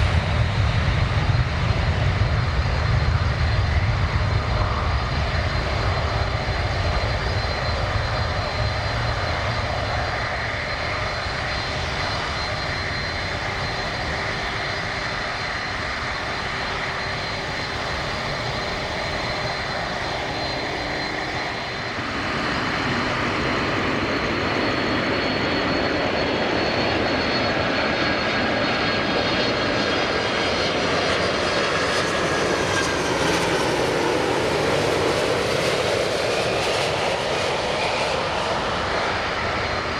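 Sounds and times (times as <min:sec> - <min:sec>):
high engine whines: 0:00.0 - 0:39.9
jet engines rushing: 0:00.0 - 0:39.9.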